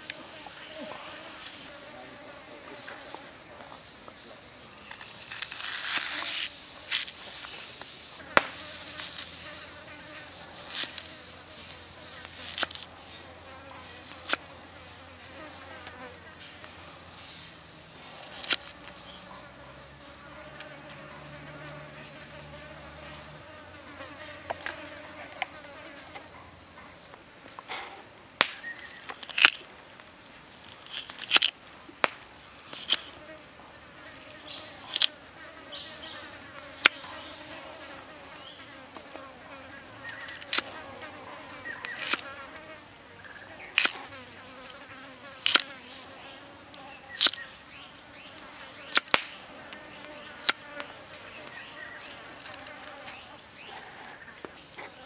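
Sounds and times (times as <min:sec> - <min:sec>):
insect buzz: 0:00.0 - 0:55.0.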